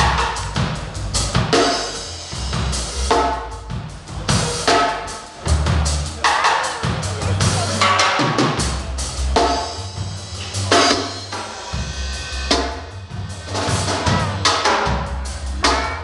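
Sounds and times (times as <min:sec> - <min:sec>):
bass line: 0:00.0 - 0:16.0
drum kit playing: 0:00.0 - 0:16.0.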